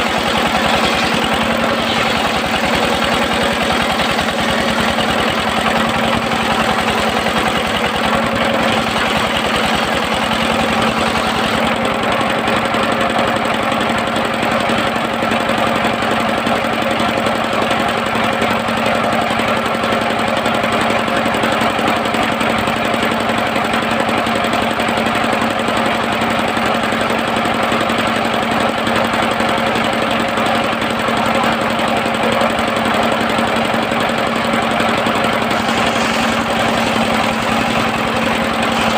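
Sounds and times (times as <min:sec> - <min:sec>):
sawmill engine humming: 0:00.0 - 0:38.9.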